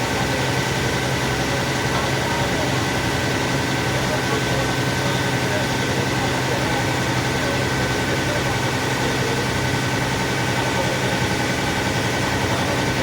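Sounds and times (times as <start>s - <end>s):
engine drone with thin whine: 0.0s - 13.0s.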